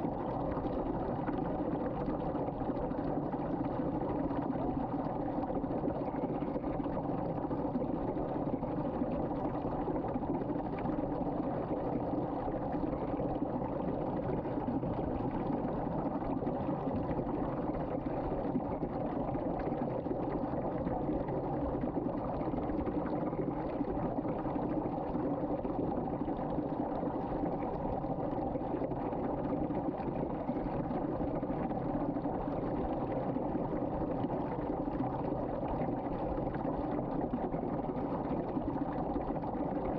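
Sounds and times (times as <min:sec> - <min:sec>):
water swirling down a drain: 0:00.0 - 0:39.9.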